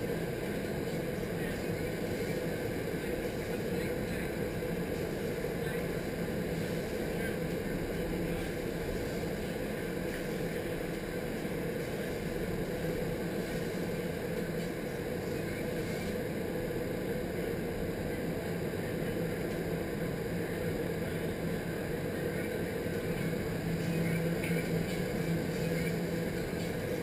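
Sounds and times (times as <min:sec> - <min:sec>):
fans humming: 0:00.0 - 0:27.0.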